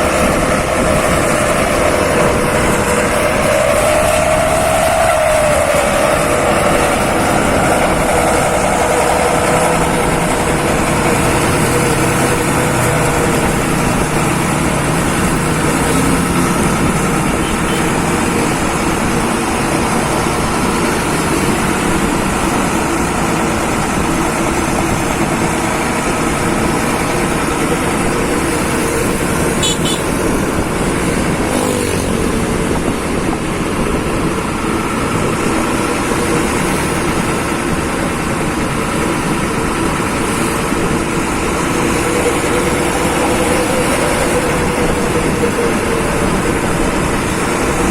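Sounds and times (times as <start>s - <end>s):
diesel engine and exhaust drone: 0.0s - 47.9s
road noise: 0.0s - 47.9s.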